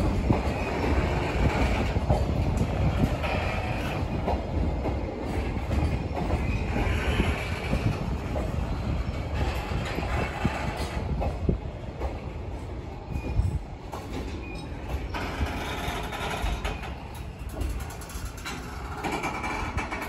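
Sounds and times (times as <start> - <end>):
train wheels rumbling and knocking: 0.0 - 20.0.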